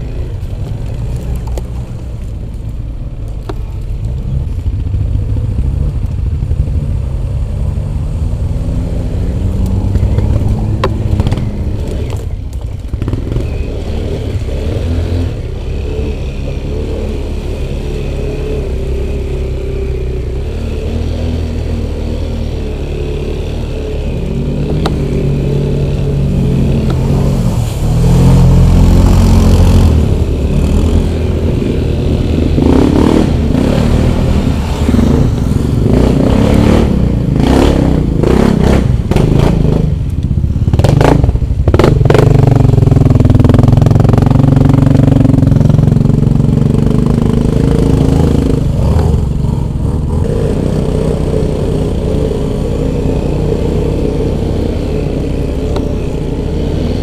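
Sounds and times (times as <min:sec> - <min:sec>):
motorcycle engine revving: 0:04.2 - 0:57.0.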